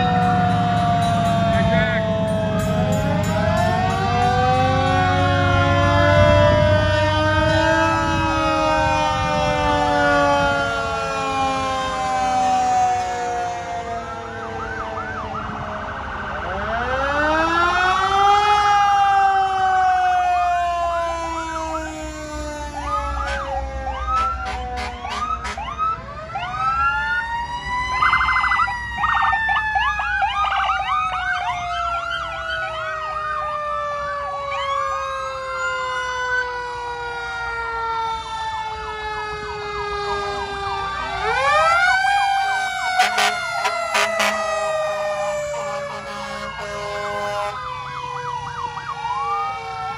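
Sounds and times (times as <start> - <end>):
fire truck sirens wailing: 0.0 - 49.9.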